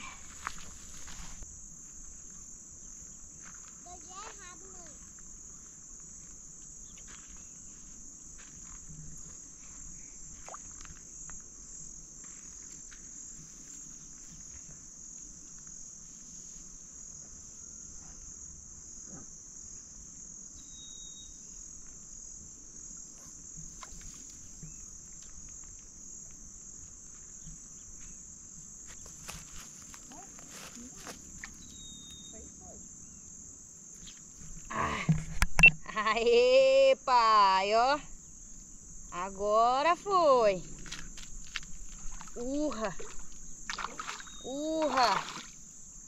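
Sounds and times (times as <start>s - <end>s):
insect chorus chirring: 0.0s - 46.0s.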